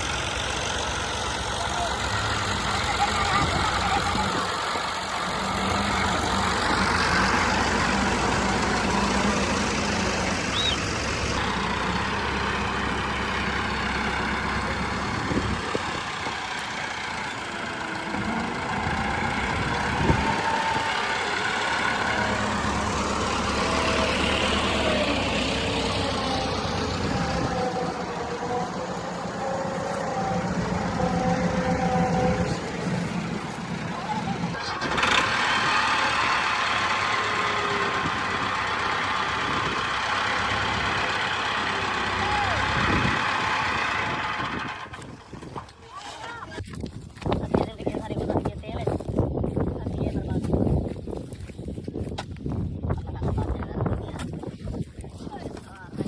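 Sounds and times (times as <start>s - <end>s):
combine harvester threshing: 0.0s - 45.7s.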